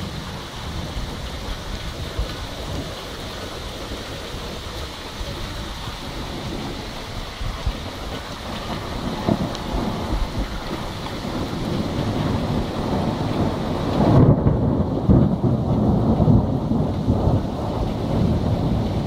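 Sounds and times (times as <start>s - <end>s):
rain hiss: 0.0s - 19.0s
thunder rumbling: 0.0s - 19.0s.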